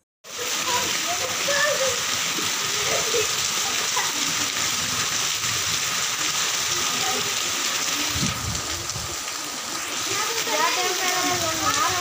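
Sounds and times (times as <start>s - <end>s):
heavy rain on water: 0.3s - 12.0s.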